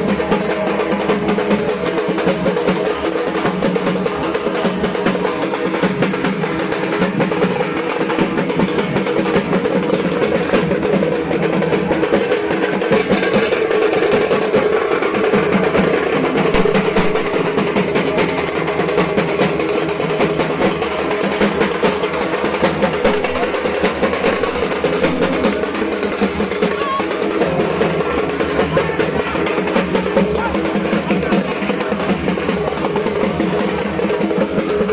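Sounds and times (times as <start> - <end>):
barrel drum roll with sticks: 0.0 - 34.9.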